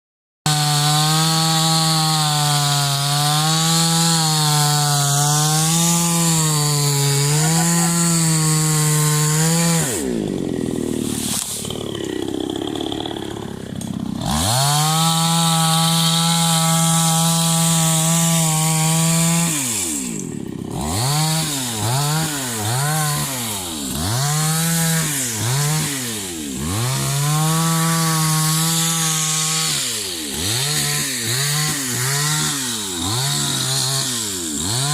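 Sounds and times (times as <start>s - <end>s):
chainsaw running at high revs: 0.5s - 34.9s.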